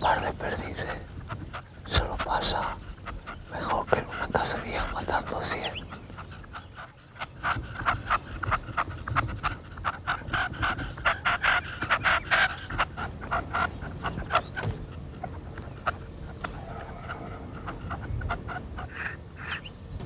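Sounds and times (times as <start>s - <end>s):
partridges clucking: 1.2s - 19.7s.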